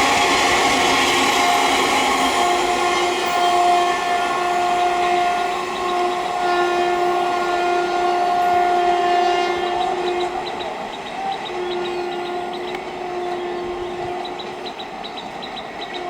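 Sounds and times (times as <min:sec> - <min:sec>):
train horn blast: 0:00.0 - 0:16.0
train noise: 0:00.0 - 0:16.0.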